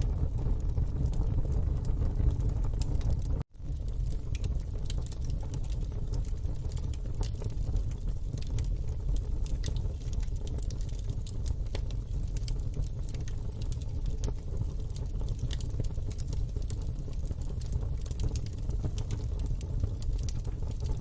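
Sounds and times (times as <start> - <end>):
fire low rumble: 0.0 - 21.0
wood fire crackling: 0.0 - 21.0.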